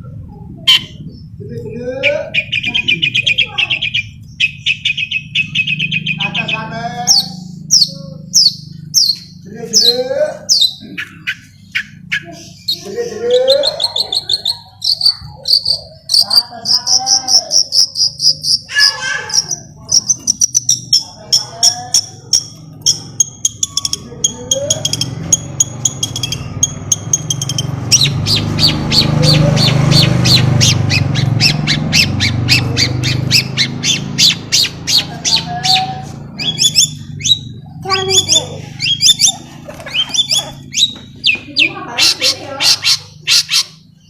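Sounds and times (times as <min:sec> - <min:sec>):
bird calls: 0:00.0 - 0:44.0
bird singing harsh scratchy notes: 0:00.0 - 0:44.0.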